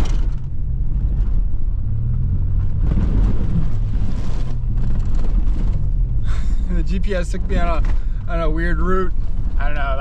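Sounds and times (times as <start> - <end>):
gravel rattle: 0.0 - 10.0
truck engine rumble: 0.0 - 10.0.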